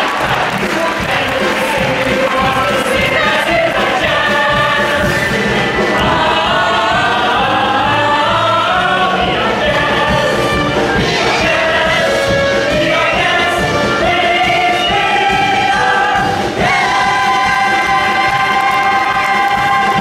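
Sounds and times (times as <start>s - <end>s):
instrumental accompaniment: 0.0s - 20.0s
cast singing in chorus: 0.2s - 20.0s.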